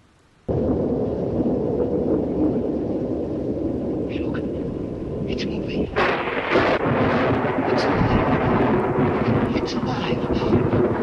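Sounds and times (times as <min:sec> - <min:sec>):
low rumble of thunder: 0:00.5 - 0:11.0
sudden thunder crash: 0:00.5 - 0:11.0.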